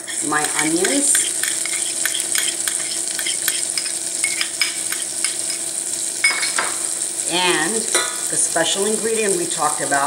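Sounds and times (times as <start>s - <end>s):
onions sizzling in hot fat: 0.0s - 10.0s.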